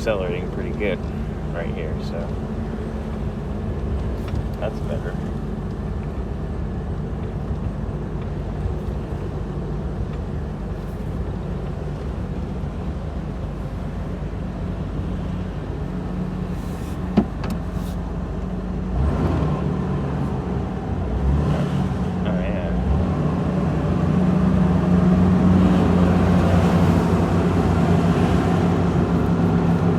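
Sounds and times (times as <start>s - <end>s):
car engine running while driving: 0.0s - 29.9s.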